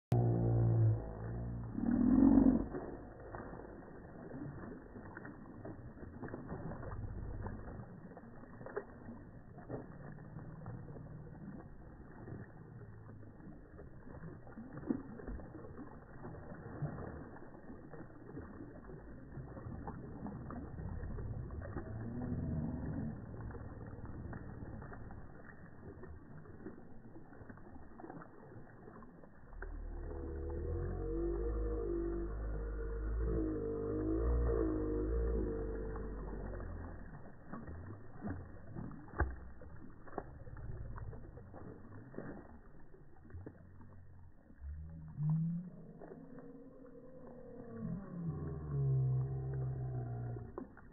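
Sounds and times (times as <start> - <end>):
slowed low muffled rumble: 0.0 - 50.9
water splashes and clicks: 0.1 - 50.9.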